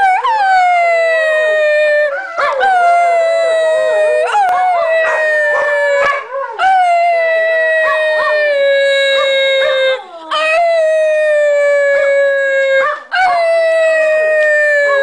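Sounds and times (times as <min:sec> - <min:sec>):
dogs howling: 0:00.0 - 0:15.0.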